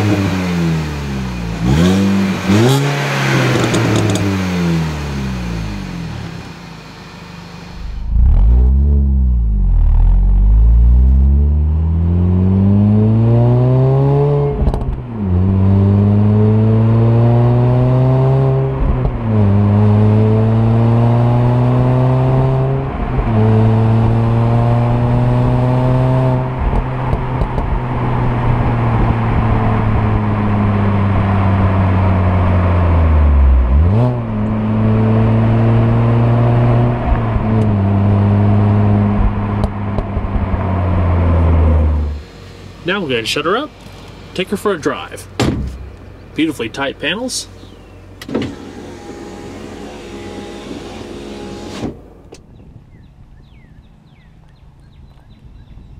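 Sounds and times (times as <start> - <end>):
car exhaust revving: 0.0 - 46.8, 47.4 - 52.3
road and wind noise: 0.0 - 55.9.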